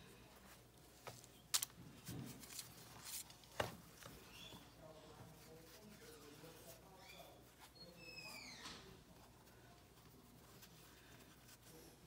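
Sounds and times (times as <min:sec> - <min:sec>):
faint dough rustling: 0:00.0 - 0:12.0.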